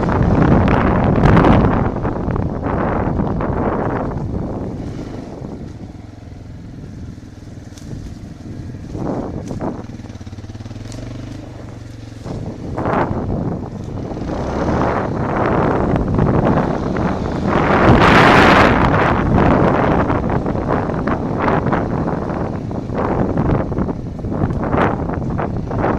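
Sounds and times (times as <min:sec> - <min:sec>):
motorcycle engine revving: 0:00.0 - 0:25.9
wind buffeting microphone: 0:00.0 - 0:25.9.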